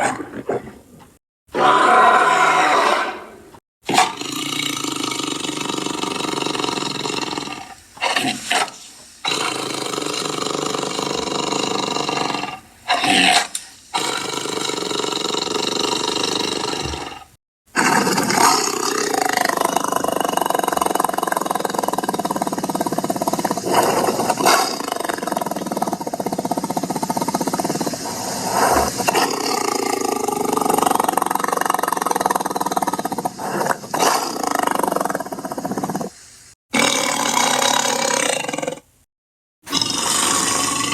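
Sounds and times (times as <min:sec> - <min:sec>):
big cat roaring and growling: 0:00.0 - 0:08.5, 0:09.3 - 0:36.1, 0:39.7 - 0:40.9.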